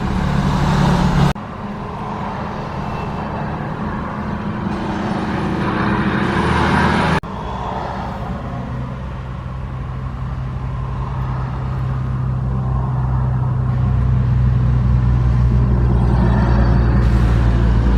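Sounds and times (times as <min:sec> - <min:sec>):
truck engine hum: 0:00.0 - 0:17.9.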